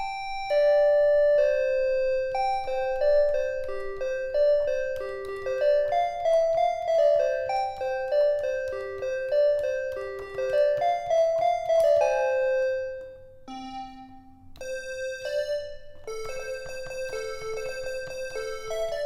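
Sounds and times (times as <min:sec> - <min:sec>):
keyboard piano melody: 0:00.0 - 0:19.0.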